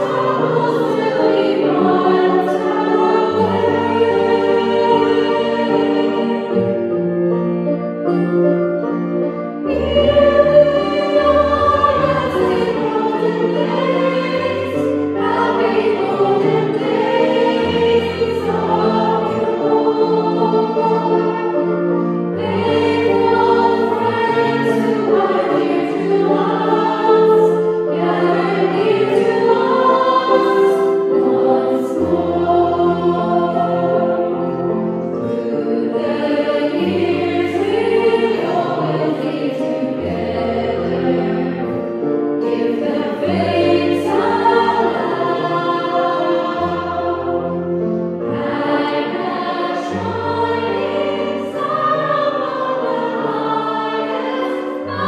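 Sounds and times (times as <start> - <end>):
choir singing a carol: 0.0 - 55.0.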